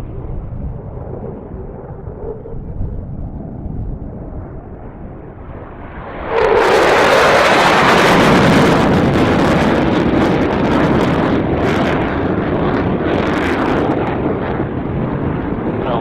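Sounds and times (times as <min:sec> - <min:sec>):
jet engine roar: 0:00.0 - 0:16.0
wind buffeting microphone: 0:00.0 - 0:16.0.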